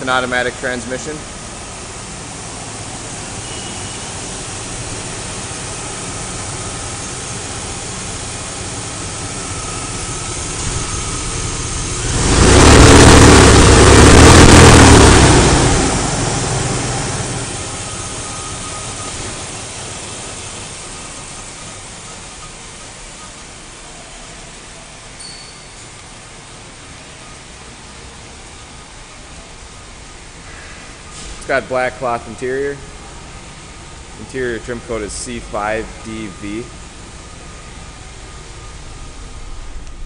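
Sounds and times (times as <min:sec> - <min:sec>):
car engine idling and revving: 0:00.0 - 0:25.2, 0:26.0 - 0:40.0.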